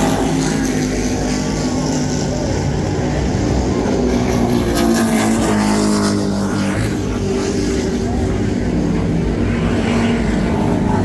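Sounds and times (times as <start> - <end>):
racing boat engines droning: 0.0 - 11.0.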